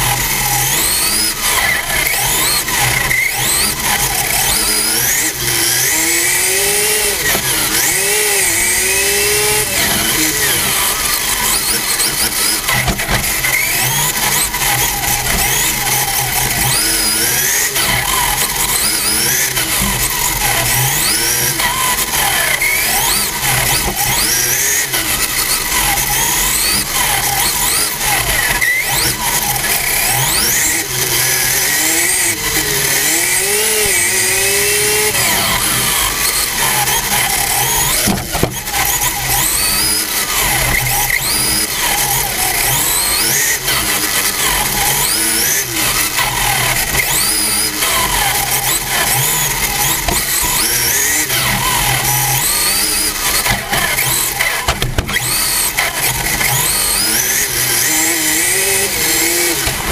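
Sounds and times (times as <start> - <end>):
rc car motor whining: 0.0 - 59.9.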